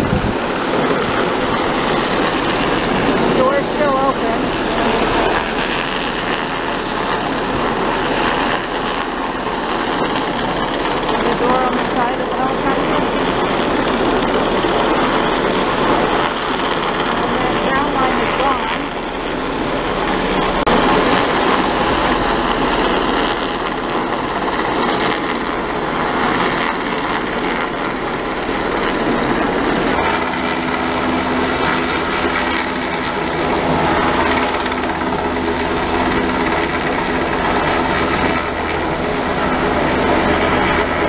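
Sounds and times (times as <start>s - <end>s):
helicopter hovering overhead: 0.0s - 41.0s
low tonal hum: 0.0s - 41.0s.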